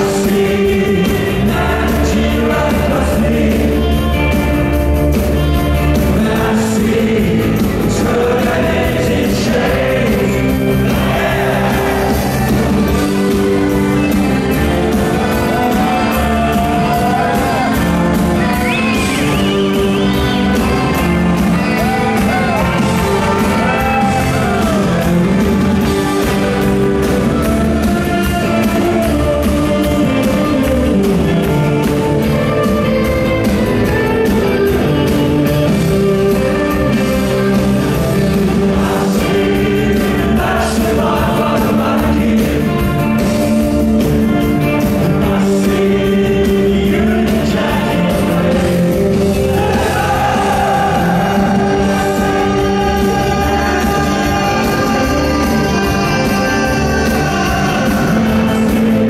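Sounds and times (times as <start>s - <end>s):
man singing: 0.0s - 4.6s, 5.6s - 13.4s, 14.9s - 32.8s, 36.2s - 43.6s, 44.4s - 59.0s
rock band playing live: 0.0s - 59.0s.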